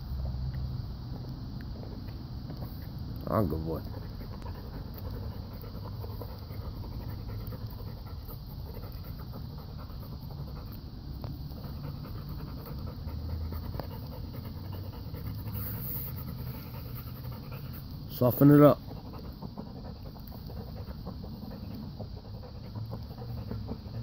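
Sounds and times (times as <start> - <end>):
dog panting: 1.8 - 24.0.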